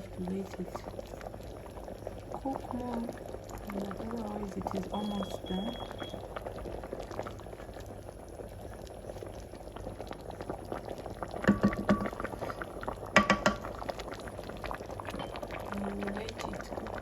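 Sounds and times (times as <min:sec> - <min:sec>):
soup bubbling in a pot: 0:00.0 - 0:17.0.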